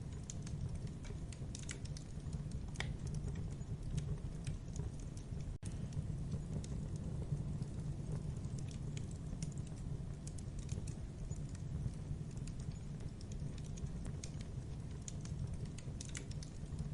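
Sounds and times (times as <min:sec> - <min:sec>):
fire crackling and popping: 0:00.0 - 0:16.9
low fire rumble: 0:00.0 - 0:16.9.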